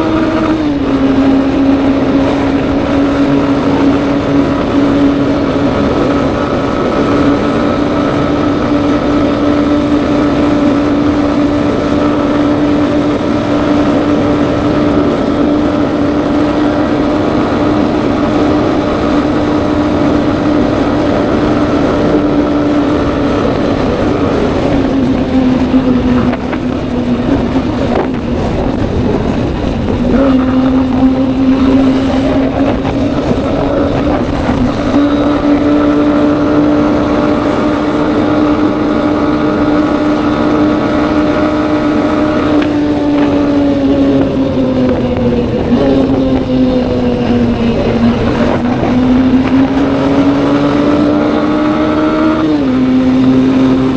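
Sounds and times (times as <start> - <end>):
motorcycle engine cruising: 0.0 - 53.9
wind rush: 0.0 - 53.9.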